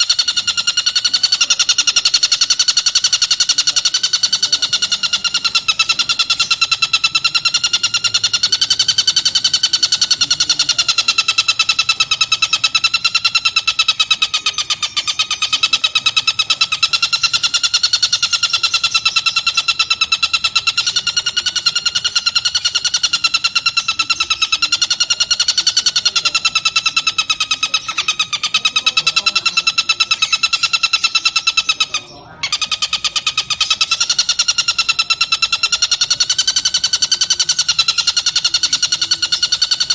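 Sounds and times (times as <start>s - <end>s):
bird rattling trill: 0.0s - 39.9s.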